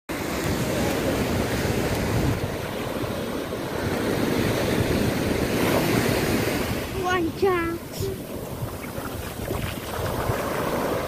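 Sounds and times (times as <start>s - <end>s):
waves washing over sandy beach: 0.1s - 11.0s.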